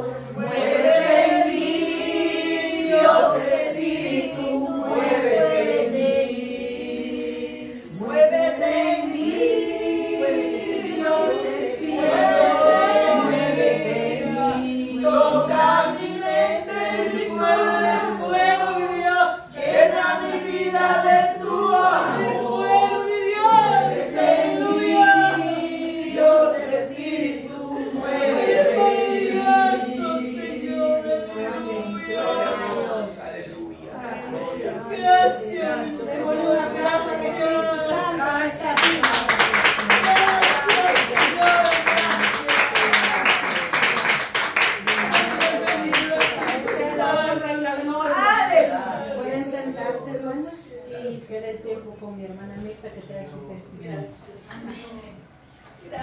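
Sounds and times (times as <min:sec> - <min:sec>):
group singing a worship song: 0:00.0 - 0:51.9.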